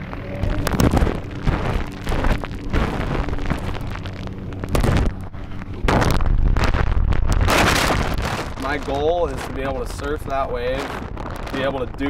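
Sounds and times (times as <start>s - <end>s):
heavy surf roaring: 0.0s - 12.0s
wind buffeting microphone: 0.0s - 12.0s.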